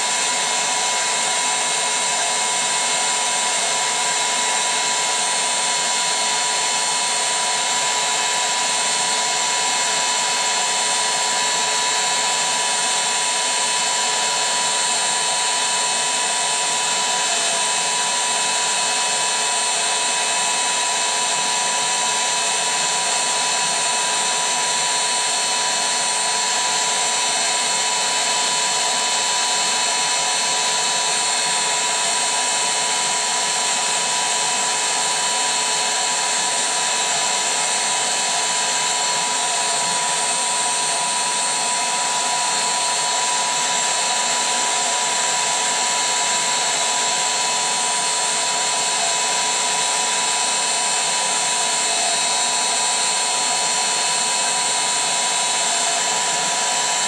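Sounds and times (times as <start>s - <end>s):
electric air pump whining: 0.0s - 57.0s.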